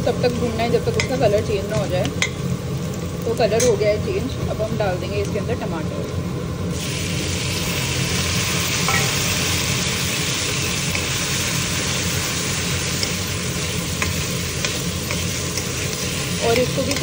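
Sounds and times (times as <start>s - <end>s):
tomatoes sizzling in ghee: 0.0s - 17.0s.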